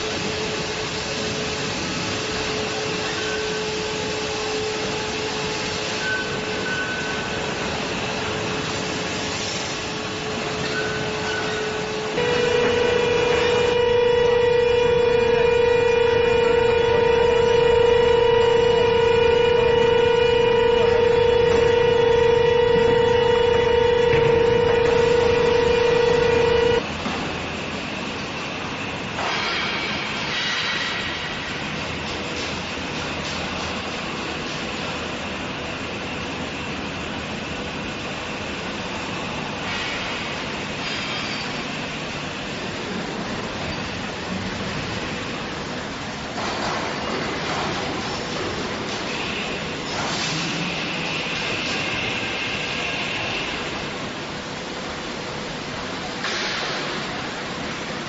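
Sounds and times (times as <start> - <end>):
induction furnace whining: 0.0 - 58.0.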